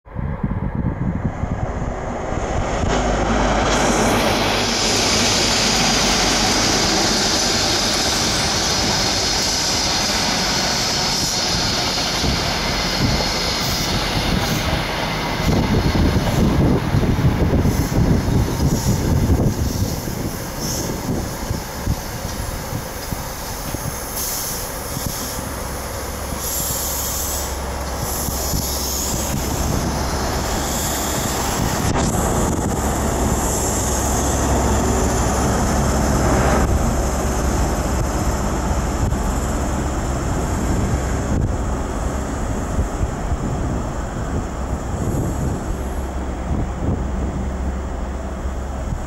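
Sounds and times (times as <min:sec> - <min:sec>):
diesel engine hum: 0:00.1 - 0:49.0
train wheels on rails: 0:00.7 - 0:49.0.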